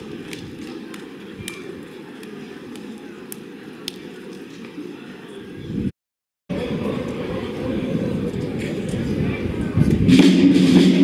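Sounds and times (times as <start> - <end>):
murmur of people: 0.0 - 5.9, 6.5 - 11.0.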